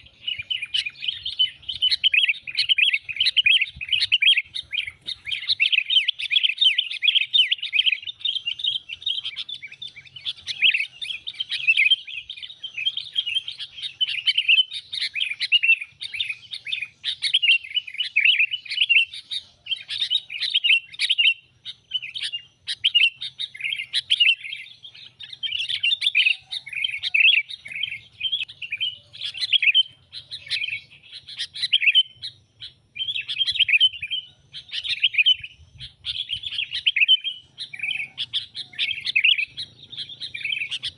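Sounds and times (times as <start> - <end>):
bulbul chattering chirps: 0.0 - 40.9.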